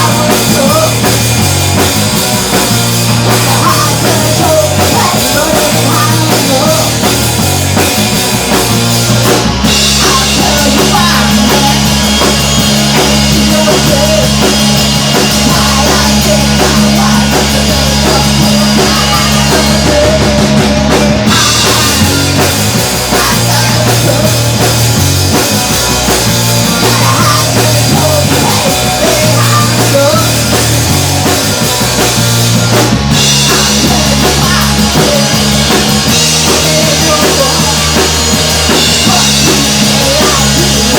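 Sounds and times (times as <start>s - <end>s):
bass line: 0.0s - 40.9s
drum kit: 0.0s - 40.9s
punk rock band playing: 0.0s - 40.9s.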